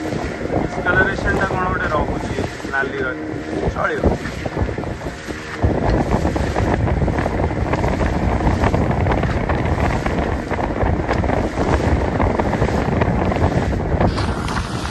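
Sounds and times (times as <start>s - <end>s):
wind on microphone: 0.0s - 14.9s.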